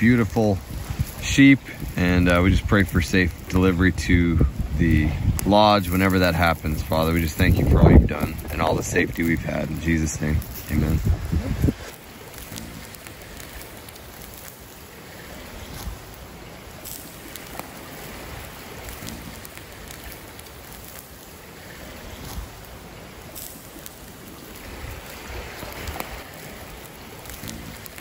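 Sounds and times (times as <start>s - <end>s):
river rushing: 0.0s - 28.0s
wind buffeting microphone: 0.0s - 28.0s.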